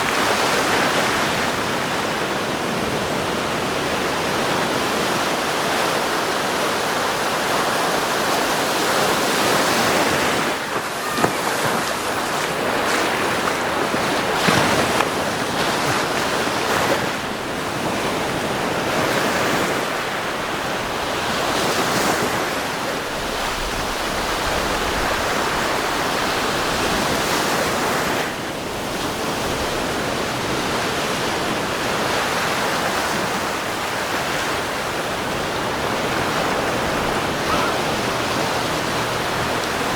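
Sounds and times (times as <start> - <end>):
waves breaking on beach: 0.0 - 39.9
wind on microphone: 0.0 - 39.9.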